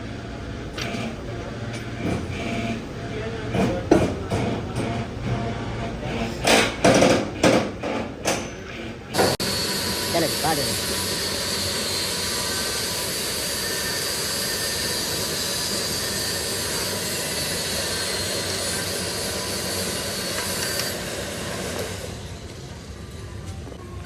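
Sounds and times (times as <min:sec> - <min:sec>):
loud machinery noise: 0:00.0 - 0:24.0.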